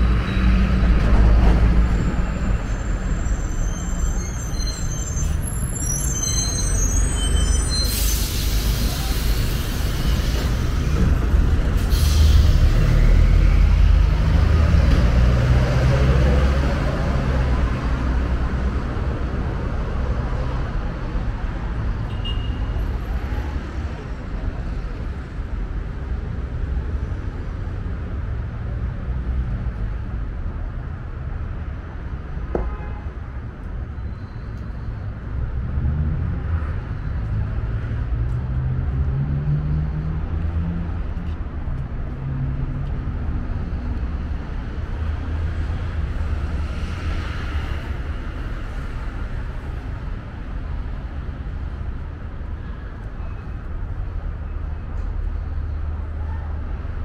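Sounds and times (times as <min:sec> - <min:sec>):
rumble of passing cars: 0:00.0 - 0:57.0.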